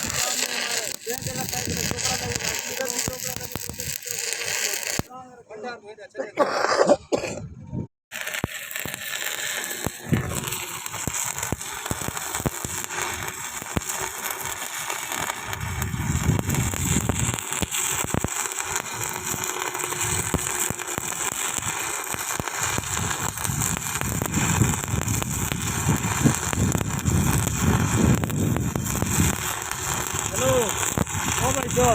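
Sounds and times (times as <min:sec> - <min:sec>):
sharp welding pops: 0:00.0 - 0:05.1, 0:08.1 - 0:31.9
welding arc crackling and sizzling: 0:00.0 - 0:05.1, 0:08.1 - 0:31.9.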